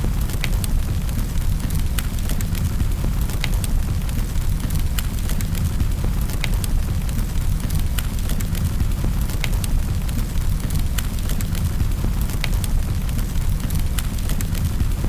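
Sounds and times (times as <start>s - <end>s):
fire pops and snaps: 0.0s - 15.0s
low rumble of flames: 0.0s - 15.0s
wood fire crackling: 0.0s - 15.0s.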